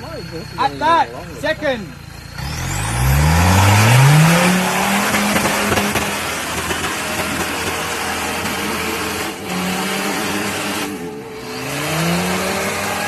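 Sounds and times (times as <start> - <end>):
off-road vehicle engine under load: 0.0 - 13.0.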